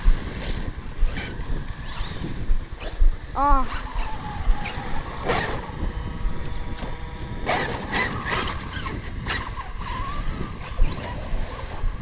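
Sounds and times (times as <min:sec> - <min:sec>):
electric rc car motor whining: 0:00.1 - 0:12.0.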